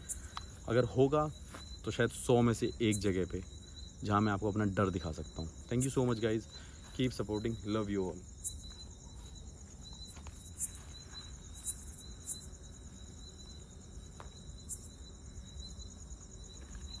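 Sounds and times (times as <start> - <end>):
crickets trilling: 0.0 - 17.0
fast pulsing insect chirp: 0.0 - 17.0.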